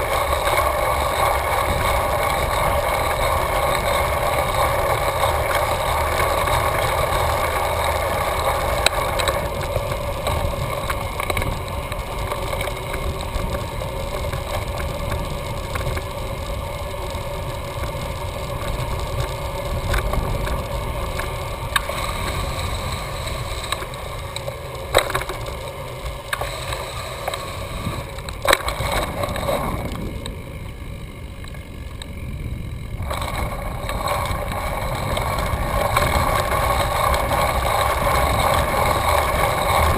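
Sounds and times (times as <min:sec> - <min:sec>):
tyre and drivetrain rolling noise: 0:00.0 - 0:39.9.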